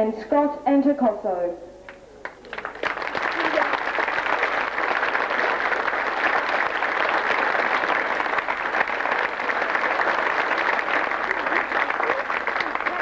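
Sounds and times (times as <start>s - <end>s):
large crowd applauding: 1.9s - 13.0s.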